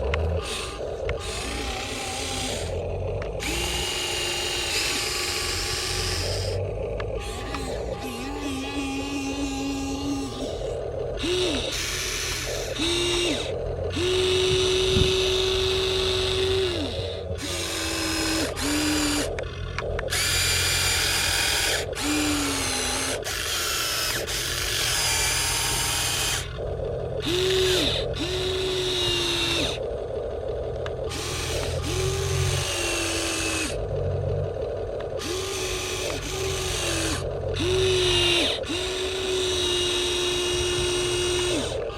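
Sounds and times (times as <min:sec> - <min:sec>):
electric motors whining: 0:00.0 - 0:41.9
steady low hum: 0:00.0 - 0:41.9.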